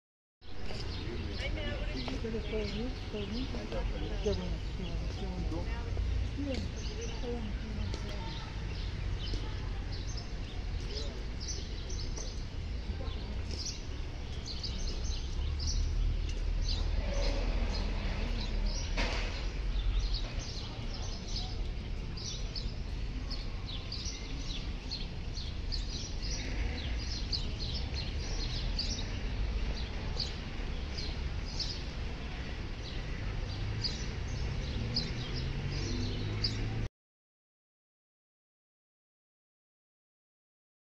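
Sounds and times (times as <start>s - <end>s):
small birds chirping: 0.5s - 36.9s.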